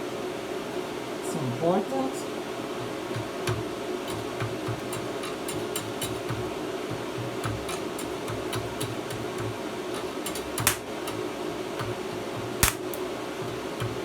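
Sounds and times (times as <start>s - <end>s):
cooling fan running: 0.0s - 14.0s
welding machine humming: 2.7s - 14.0s.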